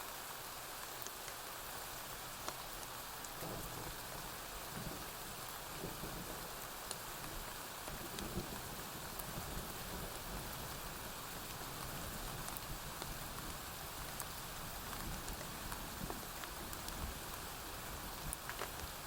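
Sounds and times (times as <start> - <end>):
rain on a roof: 0.0 - 19.0.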